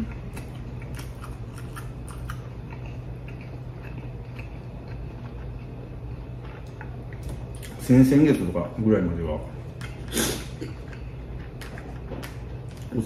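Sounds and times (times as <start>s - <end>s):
man chewing food: 0.0s - 7.9s, 9.5s - 13.0s
steady low hum: 0.0s - 13.0s.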